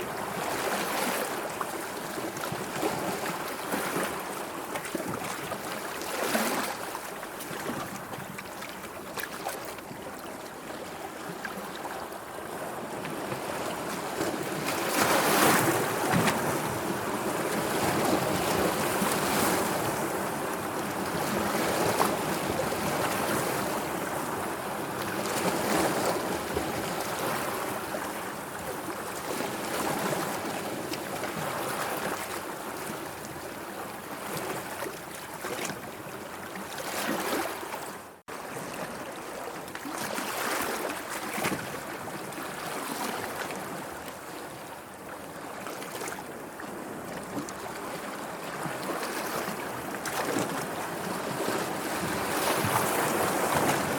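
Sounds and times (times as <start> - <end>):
sea waves washing and lapping: 0.0 - 53.9.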